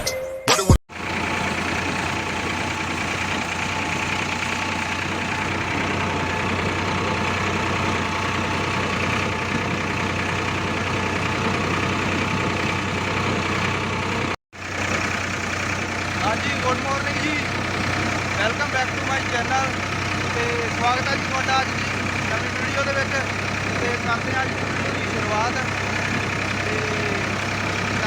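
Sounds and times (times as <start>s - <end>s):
tractor diesel engine idling: 0.9s - 28.0s.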